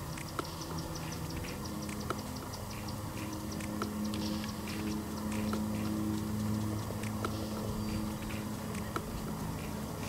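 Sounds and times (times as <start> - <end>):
deer grazing in dry grass: 0.0 - 10.0
steady low hum: 0.0 - 10.0.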